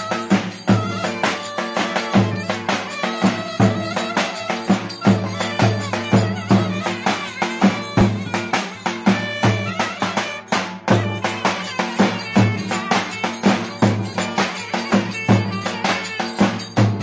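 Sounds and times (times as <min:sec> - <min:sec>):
percussion beat: 0:00.0 - 0:17.0
reed wind instrument: 0:00.0 - 0:17.0.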